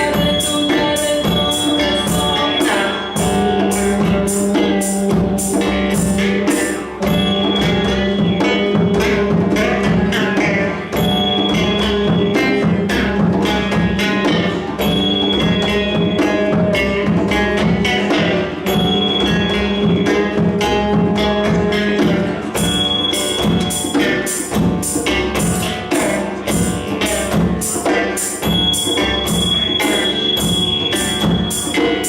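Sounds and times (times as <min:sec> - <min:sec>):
hand drums rhythm: 0:00.0 - 0:32.0
sustained melodic tones: 0:00.0 - 0:32.0.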